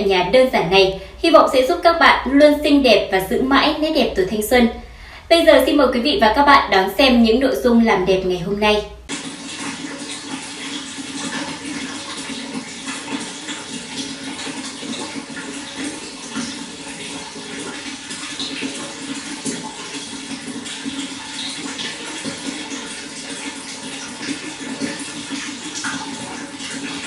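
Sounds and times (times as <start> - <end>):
running water splashing: 0.0 - 27.0.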